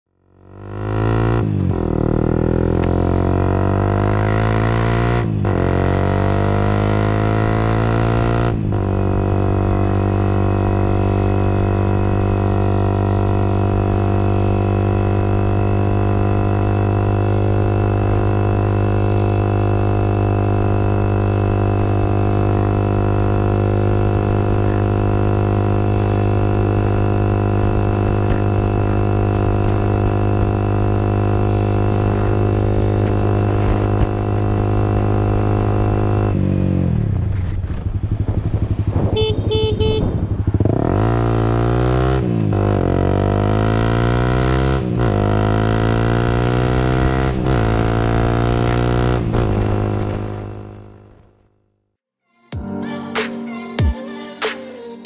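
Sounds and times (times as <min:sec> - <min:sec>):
motorcycle engine accelerating: 0:00.1 - 0:51.8.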